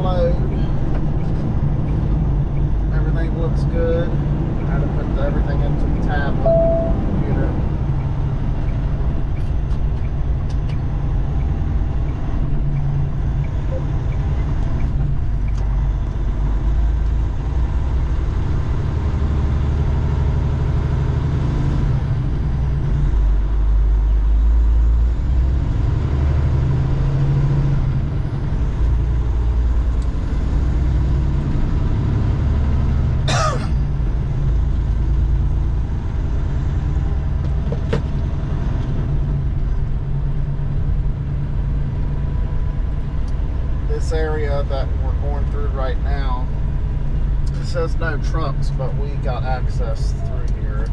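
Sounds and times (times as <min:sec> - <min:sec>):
diesel truck engine drone: 0:00.0 - 0:50.9.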